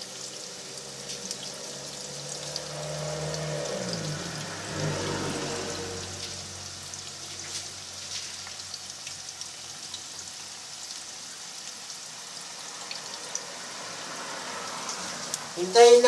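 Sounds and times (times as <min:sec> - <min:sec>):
potatoes sizzling in hot oil: 0:00.0 - 0:16.0.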